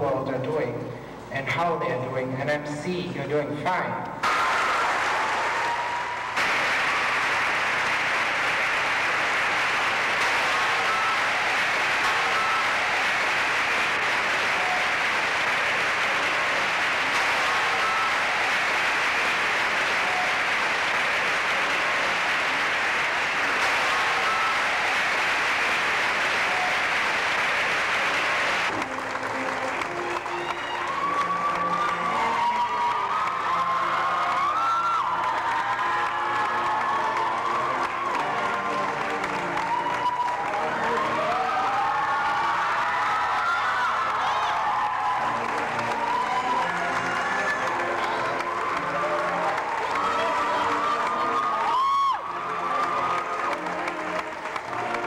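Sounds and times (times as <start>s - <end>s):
large crowd applauding: 4.2s - 55.0s.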